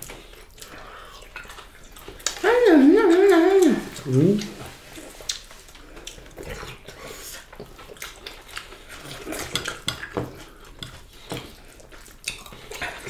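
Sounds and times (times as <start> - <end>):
chewing and mouth noises: 0.0 - 13.0.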